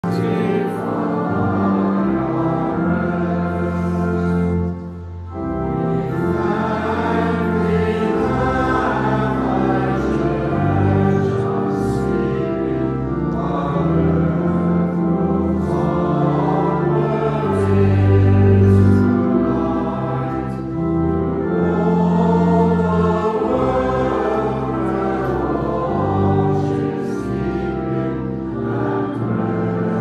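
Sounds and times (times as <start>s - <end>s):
choir singing slow chords: 0.0s - 30.0s.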